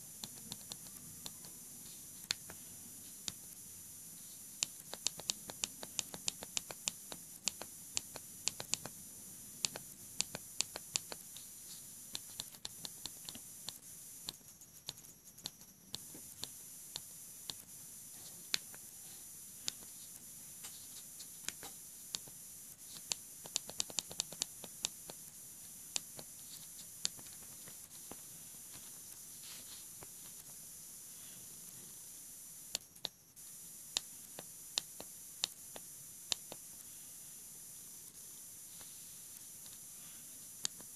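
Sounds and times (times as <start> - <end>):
faint hiss: 0.0 - 40.9.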